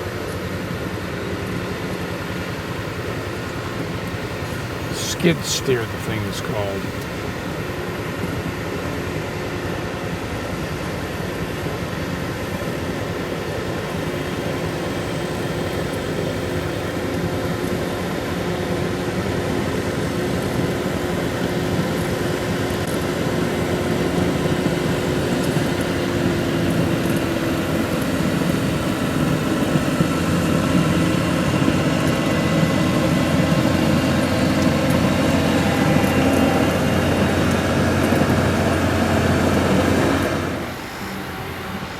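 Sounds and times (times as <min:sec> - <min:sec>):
skid steer engine running: 0:00.0 - 0:41.9.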